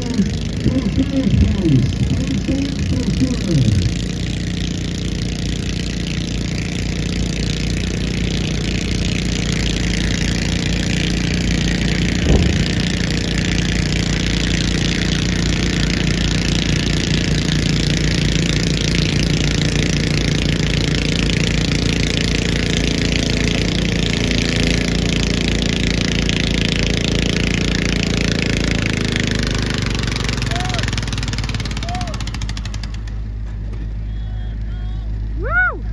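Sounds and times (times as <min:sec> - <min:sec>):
tractor engine running hard: 0:00.0 - 0:35.9.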